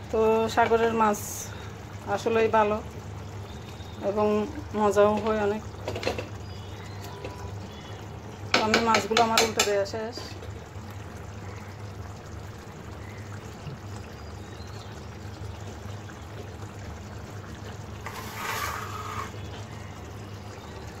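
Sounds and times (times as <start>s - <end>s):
curry bubbling in a metal pot: 0.0s - 21.0s.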